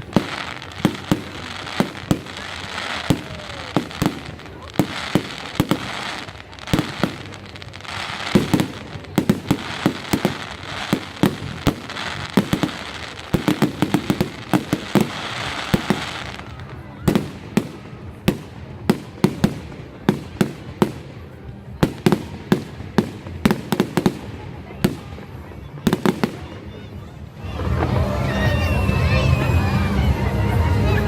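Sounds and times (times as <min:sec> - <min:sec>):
firework crackle: 0:00.0 - 0:31.0.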